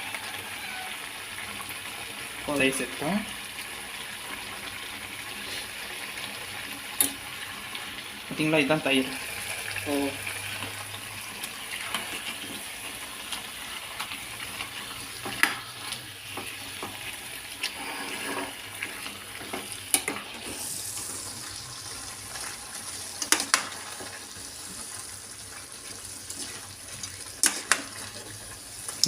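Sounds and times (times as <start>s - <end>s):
gravy sizzling in a pan: 0.0s - 29.0s.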